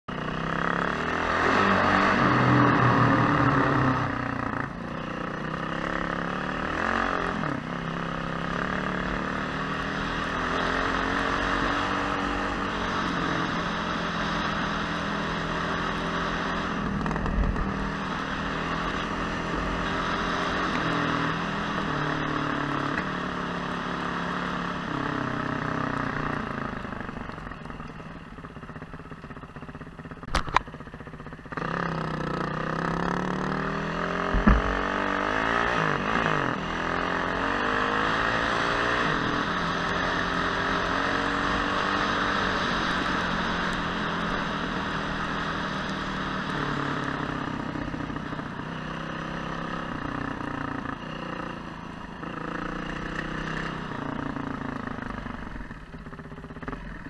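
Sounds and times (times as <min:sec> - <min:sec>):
motorcycle engine revving: 0:00.1 - 0:57.0.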